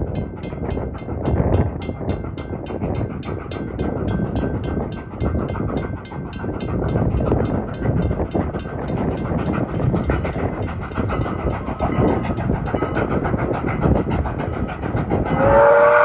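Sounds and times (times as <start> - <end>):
steam locomotive chuffing past: 0.0 - 16.0.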